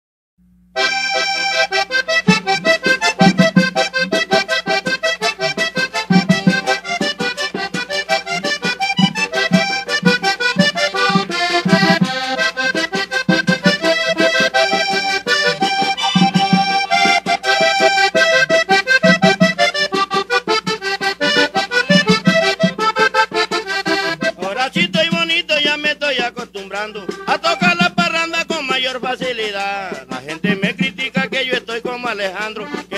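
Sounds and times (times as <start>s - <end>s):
button accordion melody: 0.7s - 32.9s.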